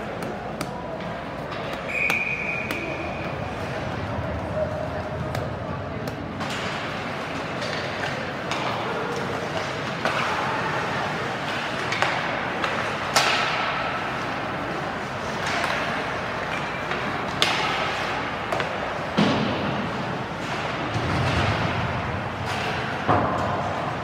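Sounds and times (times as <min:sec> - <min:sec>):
hockey sticks and puck clacking: 0:00.0 - 0:24.0.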